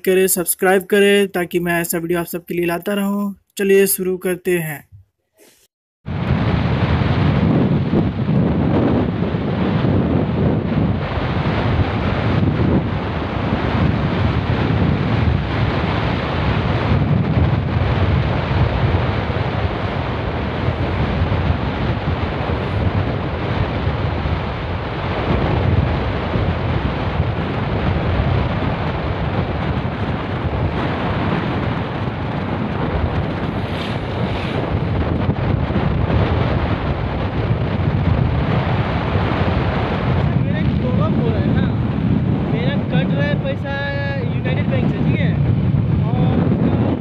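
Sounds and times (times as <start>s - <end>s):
wind buffeting microphone: 6.1s - 47.0s.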